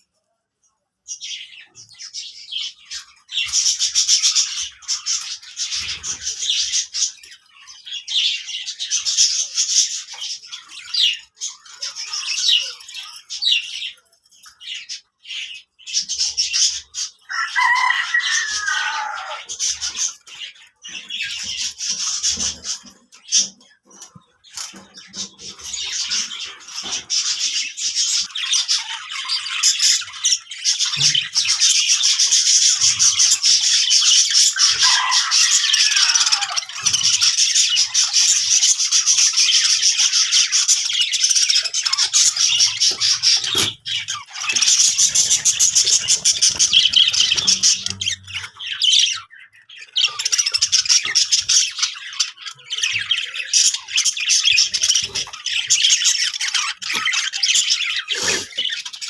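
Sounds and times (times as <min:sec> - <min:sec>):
budgerigars chattering: 0:01.2 - 0:59.0.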